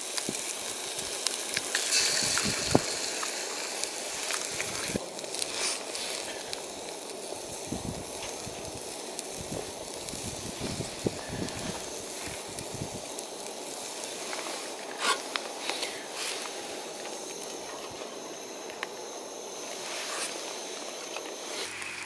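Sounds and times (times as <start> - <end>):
food sizzling in a skillet: 0.0 - 22.0.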